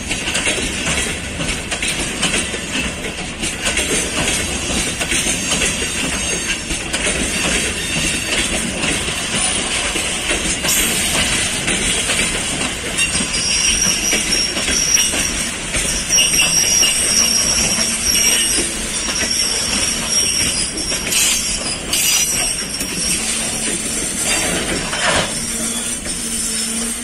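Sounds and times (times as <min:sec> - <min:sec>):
freight wagons rolling on rails: 0:00.0 - 0:27.0
train wheels squealing: 0:03.8 - 0:27.0.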